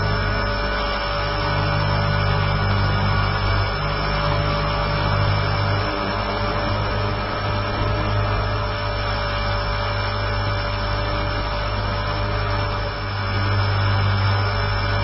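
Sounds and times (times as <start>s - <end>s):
electric motor and gear whine: 0.0s - 15.0s
low rotor buzz: 0.0s - 15.0s.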